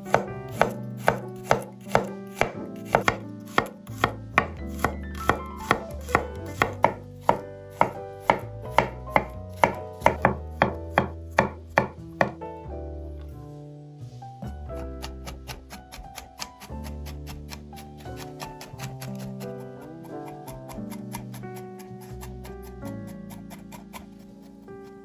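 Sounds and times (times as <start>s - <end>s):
knife chopping on wooden board: 0.1s - 12.4s, 14.7s - 24.2s.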